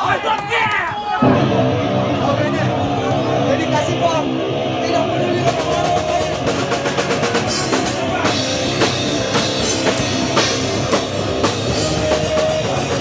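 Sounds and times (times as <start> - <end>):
hardcore band playing live: 1.2 - 13.0.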